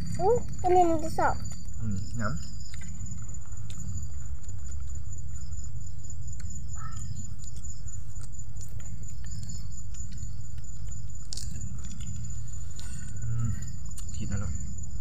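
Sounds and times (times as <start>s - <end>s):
insect trilling: 0.0s - 15.0s.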